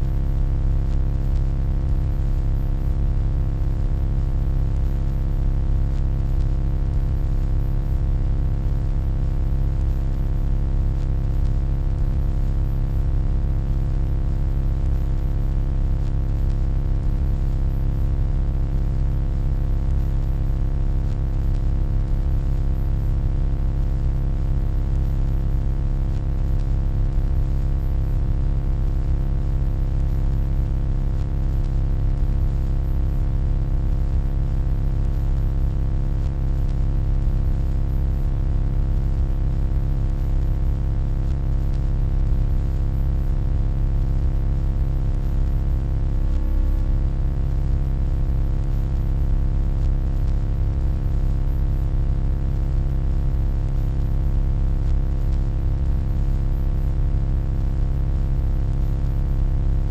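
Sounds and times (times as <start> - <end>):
low electronic hum: 0.0 - 51.6, 53.7 - 56.6.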